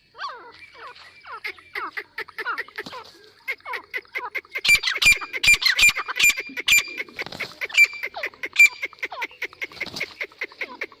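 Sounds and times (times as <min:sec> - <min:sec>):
duck quacking: 0:01.4 - 0:11.0.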